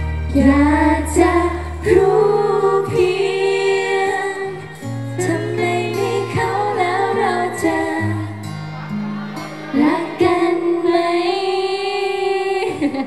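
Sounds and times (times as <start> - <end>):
backing music with bass: 0.0 - 10.9
woman singing pop vocals: 0.3 - 8.5, 9.7 - 13.0.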